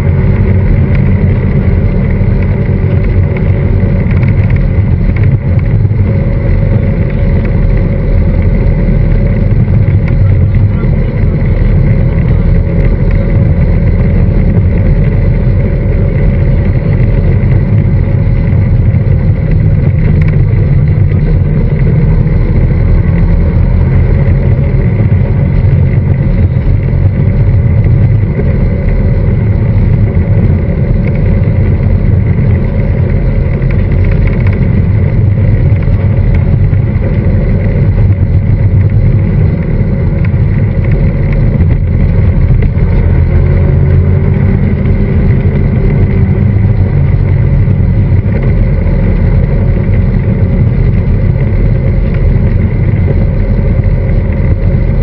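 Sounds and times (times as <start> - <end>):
motorcycle engine cruising: 0.0 - 55.0
wind rush and buffeting: 0.0 - 55.0.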